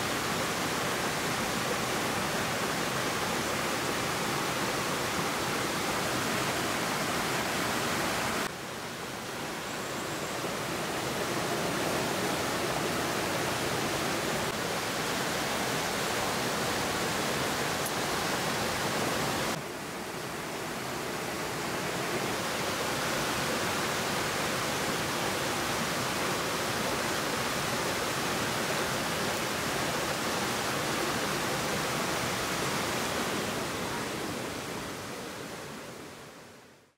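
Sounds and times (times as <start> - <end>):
stream rushing over rocks: 0.0 - 36.9.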